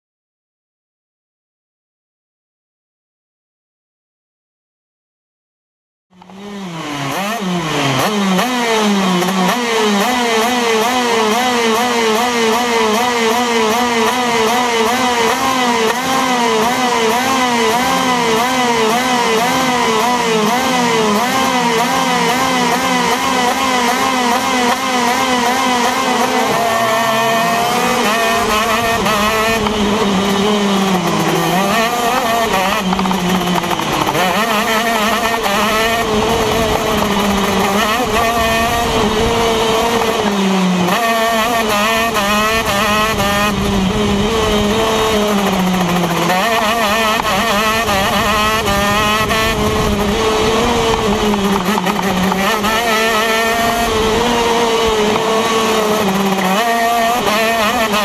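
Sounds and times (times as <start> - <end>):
kart engine at high revs: 6.1 - 58.0.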